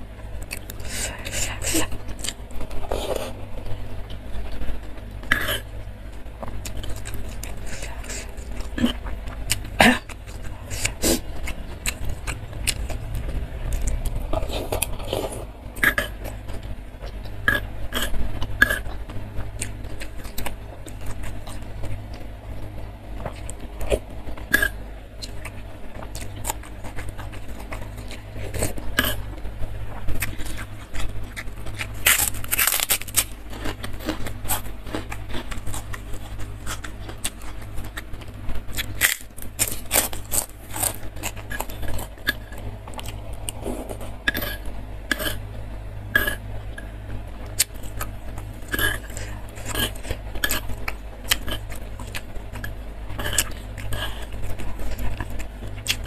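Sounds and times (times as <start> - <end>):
low steady hum: 0.0 - 56.0
cracker crunching: 0.1 - 45.5, 46.2 - 56.0.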